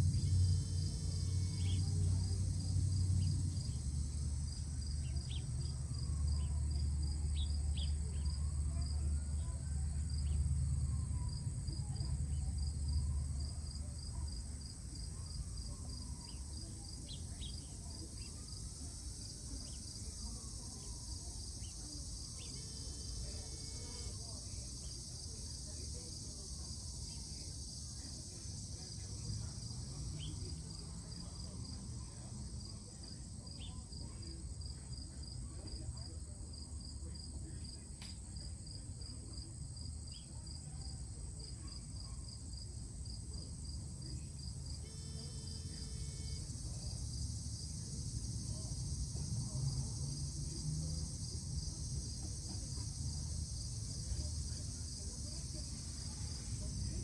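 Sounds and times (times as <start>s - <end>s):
high insect hum: 0.0s - 57.0s
insects chirping: 0.0s - 57.0s.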